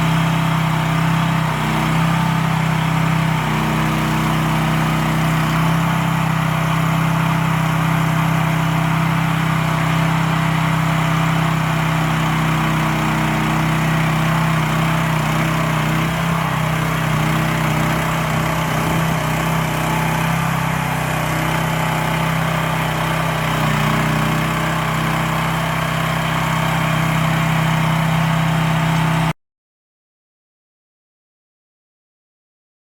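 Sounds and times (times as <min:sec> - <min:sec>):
mini excavator engine running: 0:00.0 - 0:29.3.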